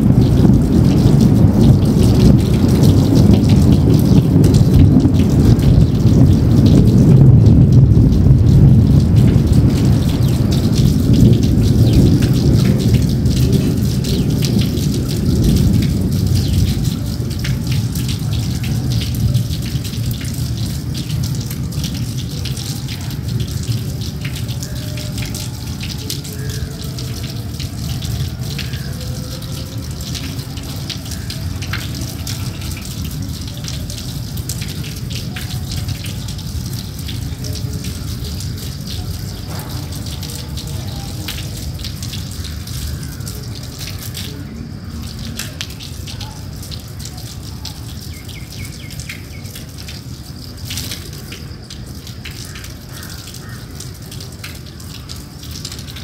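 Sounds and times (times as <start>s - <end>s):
rain falling on water: 0.0s - 56.0s.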